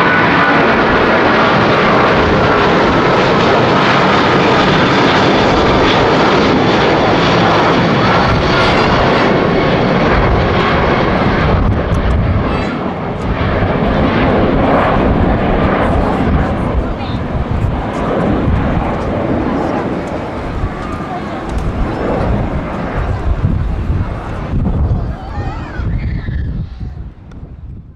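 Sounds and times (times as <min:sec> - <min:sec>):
faint jet whine: 0:00.0 - 0:27.3
jet engine roar: 0:00.0 - 0:27.7.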